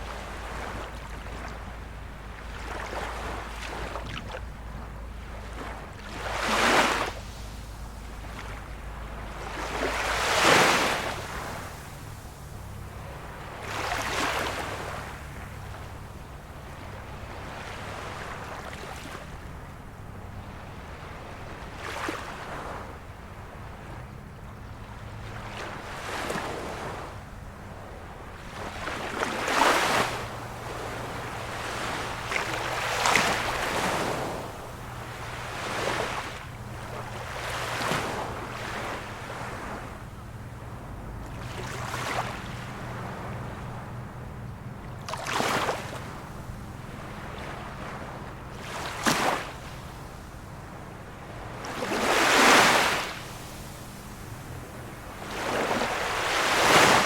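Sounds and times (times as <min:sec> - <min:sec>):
small sea waves washing in: 0:00.0 - 0:57.0.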